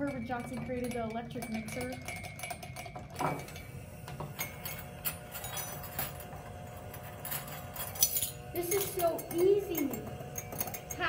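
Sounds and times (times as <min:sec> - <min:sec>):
electric hand mixer running: 0:00.0 - 0:11.0
knocks and clinks: 0:00.0 - 0:11.0.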